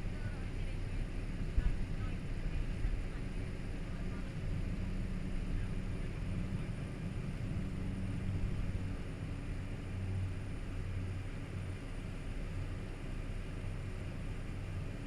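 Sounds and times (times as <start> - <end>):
faint high whine: 0.0 - 15.0
turboprop engine droning: 0.0 - 15.0.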